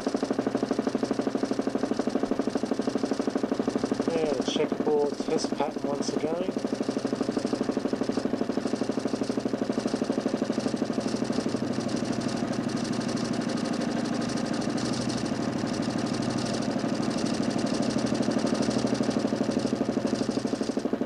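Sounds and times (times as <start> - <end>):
motor spinning disc whirring: 0.0 - 21.0.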